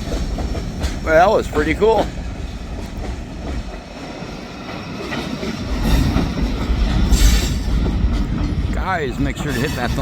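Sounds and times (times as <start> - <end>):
train wheels clickety-clack: 0.0 - 10.0.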